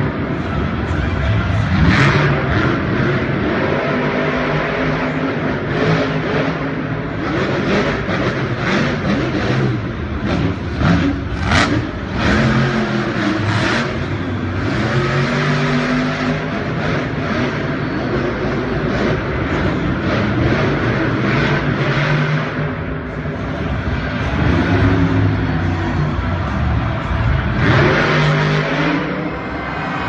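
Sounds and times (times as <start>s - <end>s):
racing truck engines revving: 0.0s - 30.0s.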